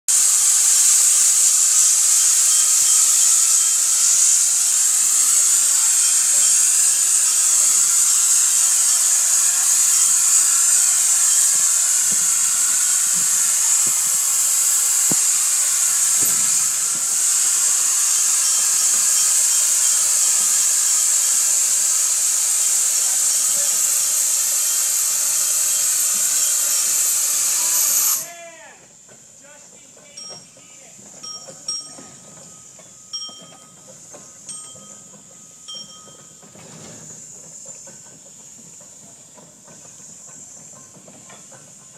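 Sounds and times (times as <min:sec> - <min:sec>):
steam venting hiss: 0:00.1 - 0:41.9.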